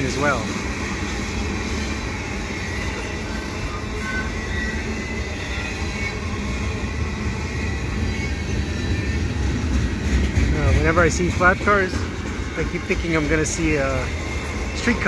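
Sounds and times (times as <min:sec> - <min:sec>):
high wheel squeals: 0:00.0 - 0:15.0
train wheels rumbling on rails: 0:00.0 - 0:15.0.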